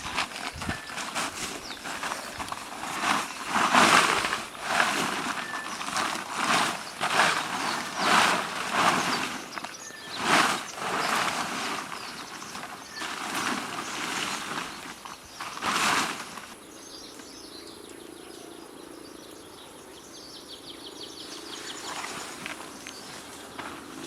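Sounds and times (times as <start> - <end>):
dry leaves rustling and crunching: 0.0 - 16.6, 21.3 - 24.0.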